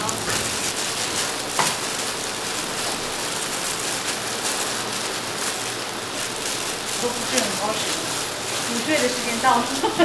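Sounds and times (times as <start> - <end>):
foil crinkling: 0.0 - 10.0
steady hiss: 0.0 - 10.0.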